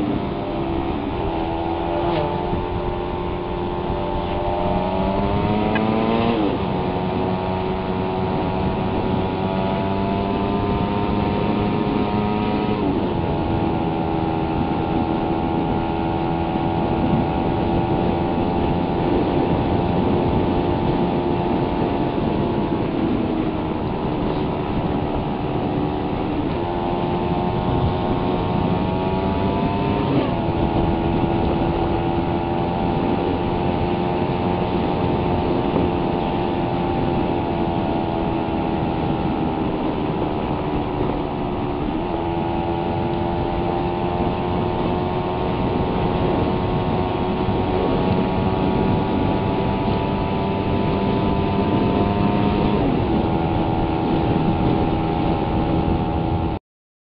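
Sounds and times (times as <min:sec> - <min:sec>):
motorcycle engine running: 0:00.0 - 0:56.6
road and wind noise: 0:00.0 - 0:56.6.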